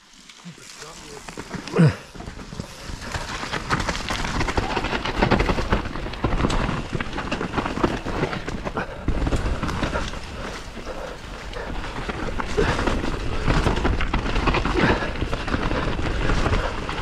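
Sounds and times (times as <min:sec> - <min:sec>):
bike tyres crunching on dirt: 0:00.0 - 0:17.0
bike clicks and rattles: 0:00.1 - 0:17.0.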